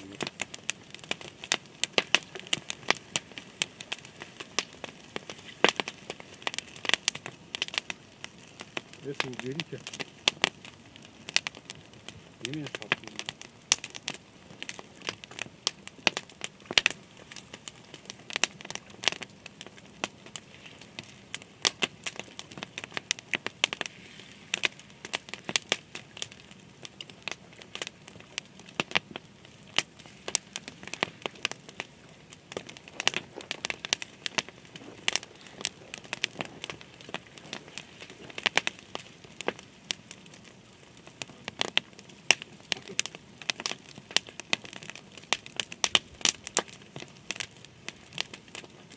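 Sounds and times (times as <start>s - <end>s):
faint hiss: 0.0s - 44.2s
sharp crackling and crinkling: 0.0s - 48.9s.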